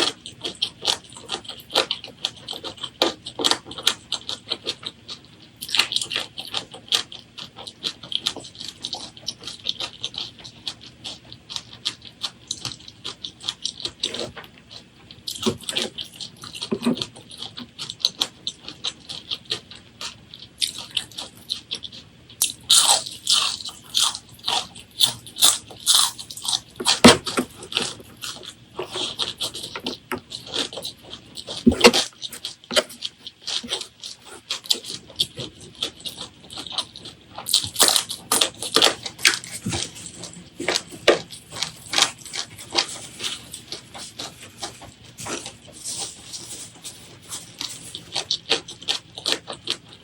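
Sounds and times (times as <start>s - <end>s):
wet chewing and crunching: 0.0s - 50.0s.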